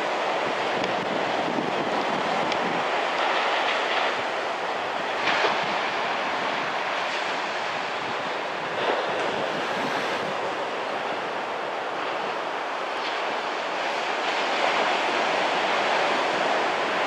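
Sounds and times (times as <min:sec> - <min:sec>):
small surf waves breaking: 0:00.0 - 0:17.0
wind buffeting microphone: 0:00.0 - 0:17.0.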